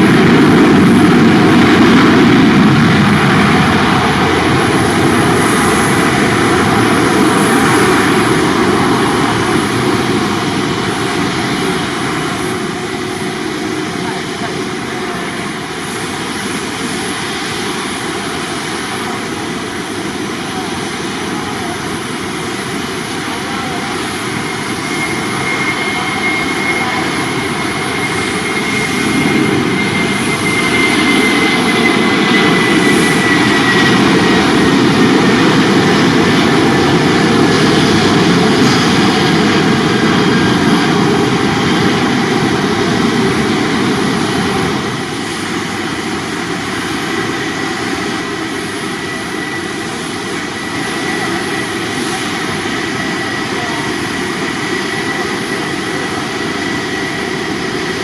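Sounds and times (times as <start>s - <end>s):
jet engines passing: 0.0s - 58.0s.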